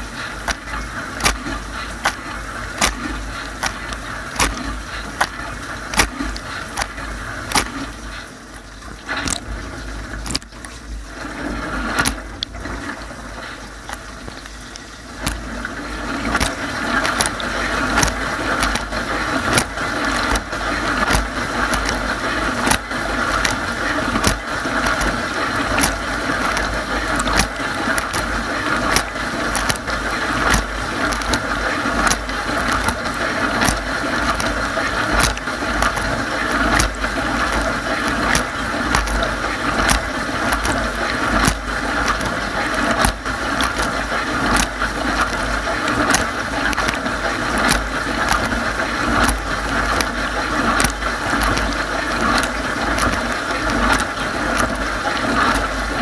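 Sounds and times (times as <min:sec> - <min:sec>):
dishwasher water spraying: 0:00.0 - 0:56.0.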